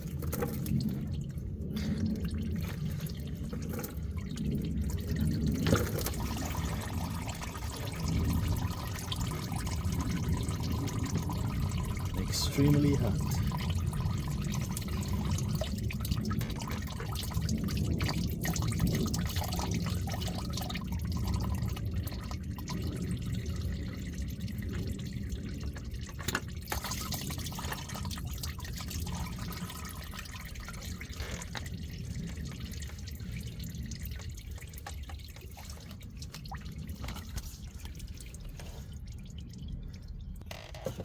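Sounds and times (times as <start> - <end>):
oil trickling into a bucket: 0.0 - 41.0.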